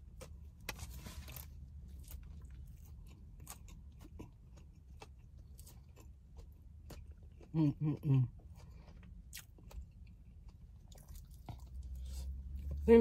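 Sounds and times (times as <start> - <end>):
person chewing food: 0.0 - 12.8.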